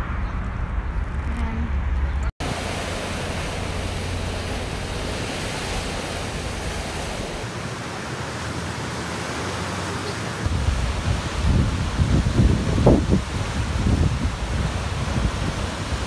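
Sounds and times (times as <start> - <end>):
waves breaking on rocks: 2.4 - 16.0.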